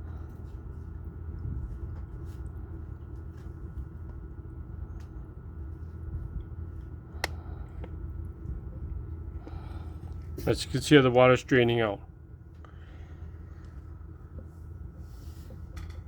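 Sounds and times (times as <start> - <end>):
low mechanical hum and rumble: 0.0 - 16.0.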